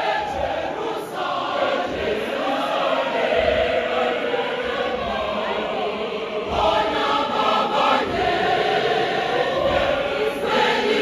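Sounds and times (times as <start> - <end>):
church choir singing: 0.0 - 11.0.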